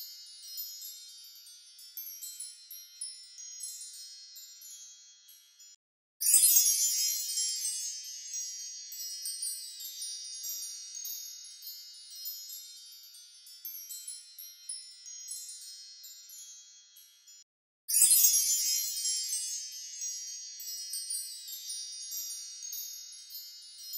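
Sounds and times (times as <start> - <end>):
bright chime-like tinkles: 0.0 - 23.9.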